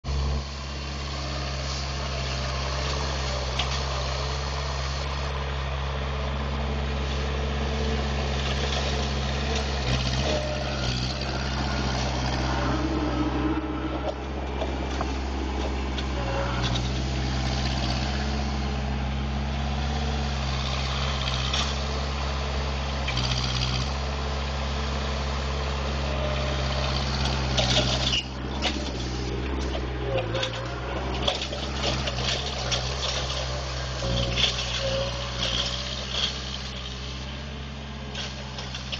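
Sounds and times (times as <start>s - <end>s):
heavy vehicle engine running: 0.0s - 38.9s.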